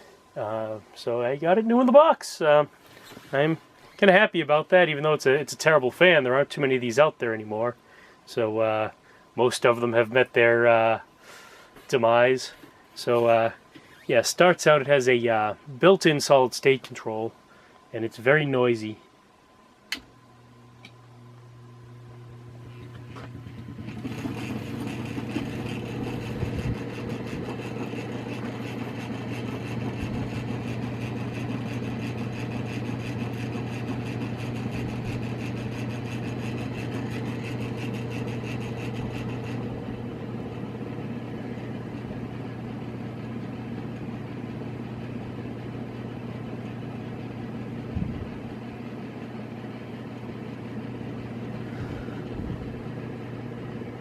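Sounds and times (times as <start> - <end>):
ceiling fan humming: 0.0 - 54.0.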